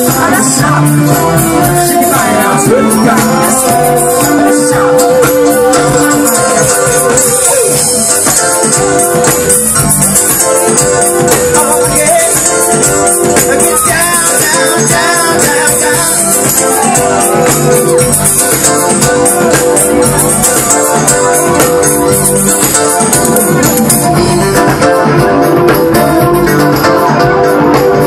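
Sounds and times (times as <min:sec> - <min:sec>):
person singing: 0:00.0 - 0:08.8, 0:11.2 - 0:28.0
live band music: 0:00.0 - 0:28.0.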